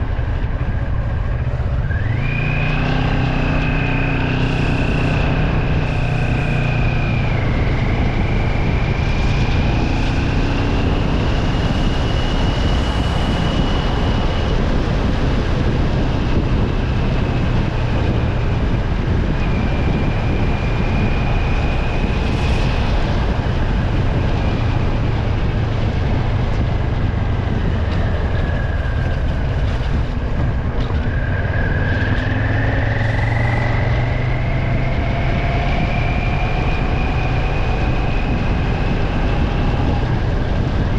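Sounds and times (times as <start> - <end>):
vehicle running on road: 0.0 - 40.9.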